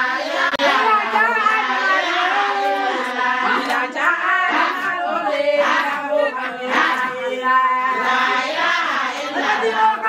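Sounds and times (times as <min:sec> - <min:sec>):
women singing together: 0:00.0 - 0:10.0.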